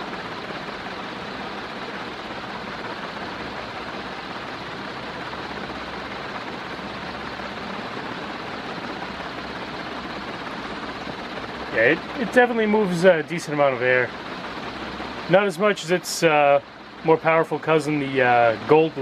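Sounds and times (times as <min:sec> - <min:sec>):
ceiling fan air rush: 0:00.0 - 0:19.0.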